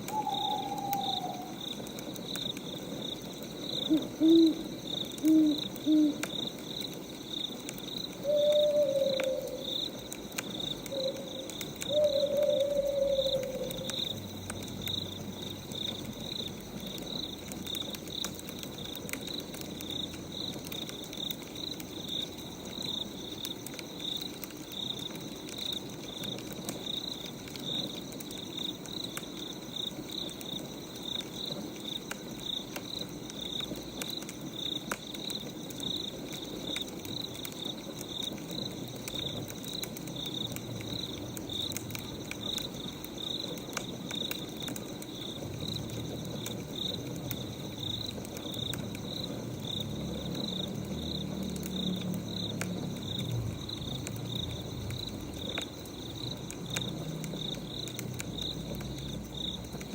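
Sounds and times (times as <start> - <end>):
crickets chirping: 0.0 - 59.9
wood fire crackling: 0.0 - 59.9.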